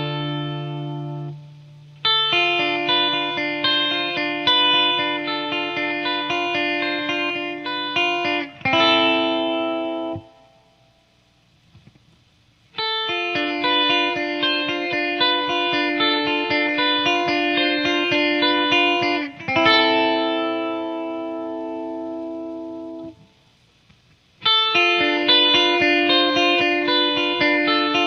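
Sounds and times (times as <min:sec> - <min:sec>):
electric guitar with chorus effect: 0:00.0 - 0:28.0.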